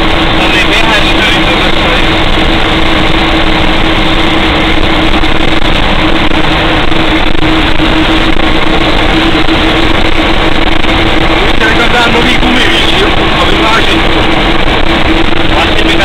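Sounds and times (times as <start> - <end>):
road noise: 0.0 - 16.0
steady whine: 0.0 - 16.0
truck engine running: 0.0 - 16.0.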